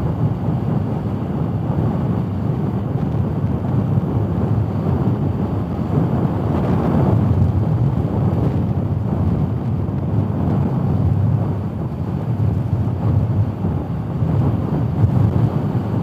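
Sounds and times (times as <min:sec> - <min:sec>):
motorcycle road rumble: 0:00.0 - 0:16.0
wind rushing over microphone: 0:00.0 - 0:16.0.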